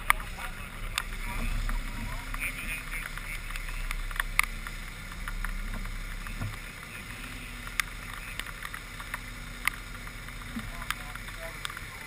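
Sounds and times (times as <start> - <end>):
car engine idling: 0.0 - 12.0
rain tapping on car: 0.0 - 12.0.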